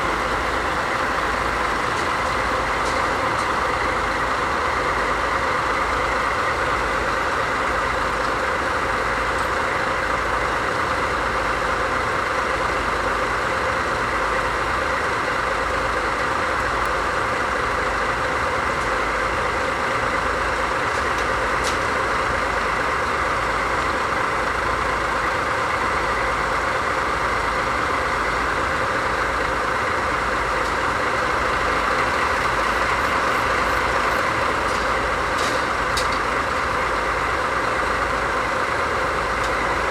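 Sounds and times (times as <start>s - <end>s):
locomotive diesel engine idling: 0.0s - 39.9s.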